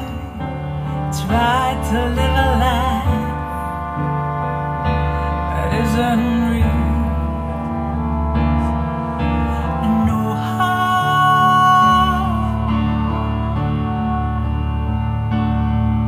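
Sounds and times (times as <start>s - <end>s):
vocal music through speakers: 0.0s - 15.8s.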